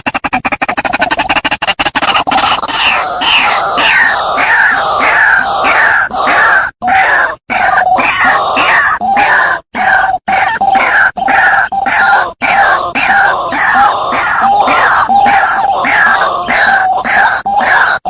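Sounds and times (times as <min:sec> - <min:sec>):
waterhen harsh croaking calls: 0:00.0 - 0:18.0.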